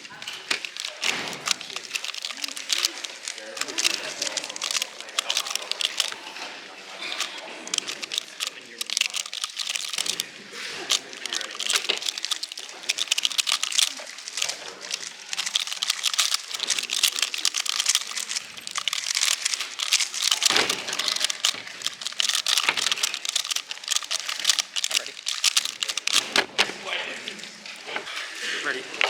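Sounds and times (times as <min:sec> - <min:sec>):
speed cube plastic clicks: 0:00.0 - 0:26.7.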